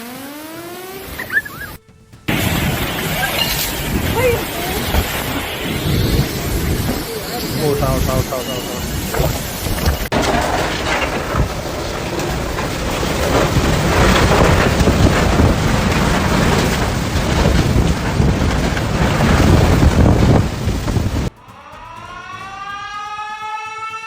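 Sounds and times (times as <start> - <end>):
wind: 0.0 - 24.0
heavy rain: 0.5 - 21.4.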